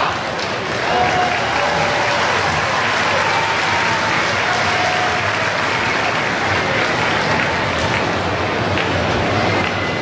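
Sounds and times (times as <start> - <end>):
stadium crowd applauding: 0.0 - 10.0.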